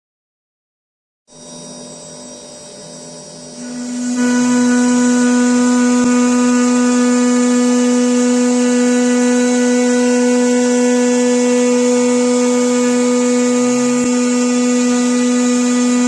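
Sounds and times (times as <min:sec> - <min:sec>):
milling machine humming: 0:01.4 - 0:16.0.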